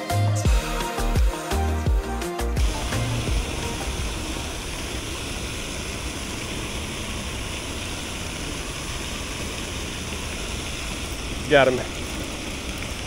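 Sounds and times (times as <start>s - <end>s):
fountain spray: 0.7s - 13.0s.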